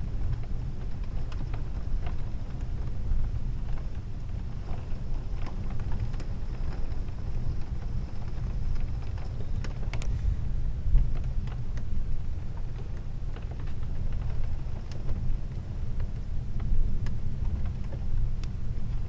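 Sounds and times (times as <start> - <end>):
raindrop ticks: 0.0 - 10.1, 10.9 - 19.0
storm wind on microphone: 0.0 - 19.0.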